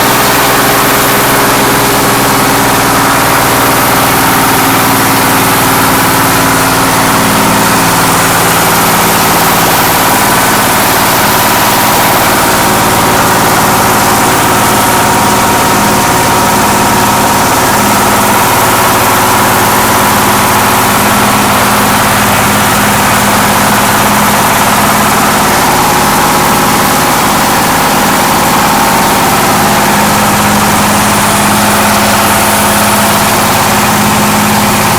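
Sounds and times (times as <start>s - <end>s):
hammer mill and diesel engine running: 0.0s - 34.9s.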